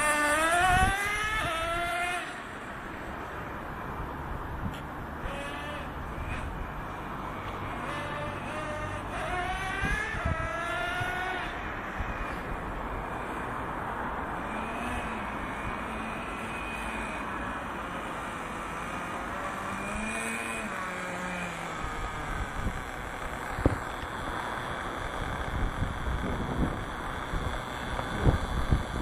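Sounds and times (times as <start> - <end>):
toy truck nitro engine revving: 0.0 - 3.7, 5.1 - 13.6, 14.2 - 29.0.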